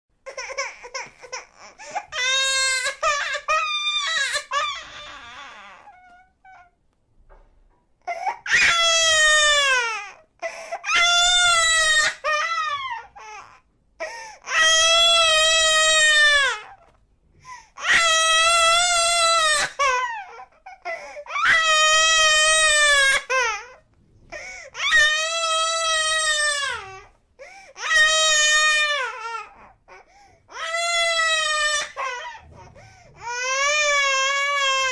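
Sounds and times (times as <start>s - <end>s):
baby crying: 0.2s - 6.8s, 8.0s - 16.9s, 17.8s - 23.8s, 24.4s - 34.9s.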